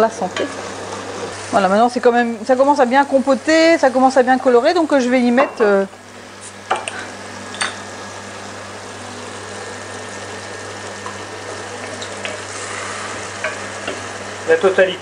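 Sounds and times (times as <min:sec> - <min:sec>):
food sizzling in butter: 0:00.0 - 0:15.0
beer pouring and foaming: 0:00.6 - 0:05.0, 0:06.1 - 0:15.0.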